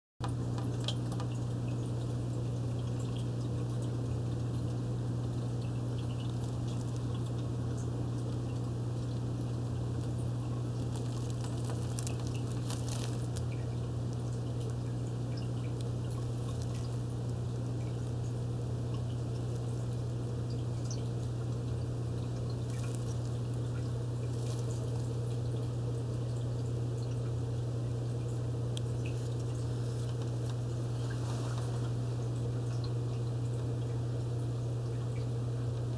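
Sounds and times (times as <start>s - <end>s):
aquarium filter humming: 0.2s - 35.9s
small water splashes: 0.2s - 35.9s
water trickling and dripping: 0.2s - 35.9s.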